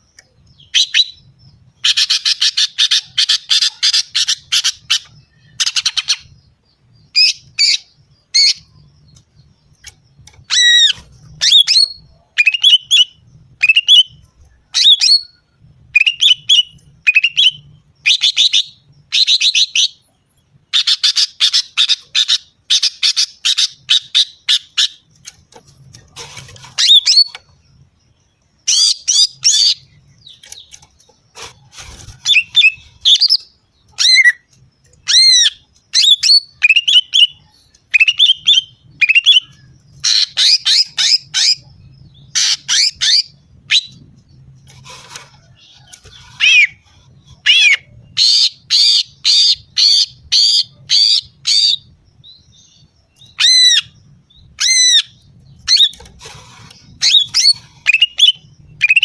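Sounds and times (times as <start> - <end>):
bird chattering and whistling: 0.2 - 6.4, 9.8 - 20.1, 20.7 - 27.5, 28.7 - 51.9, 52.5 - 59.0.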